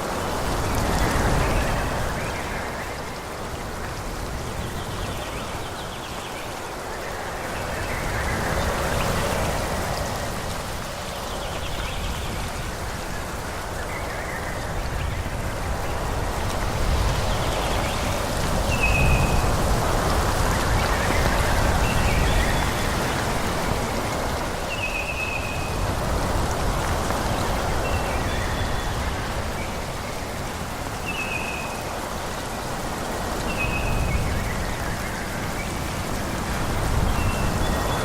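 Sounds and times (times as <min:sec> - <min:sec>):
wind blowing through trees: 0:00.0 - 0:38.0.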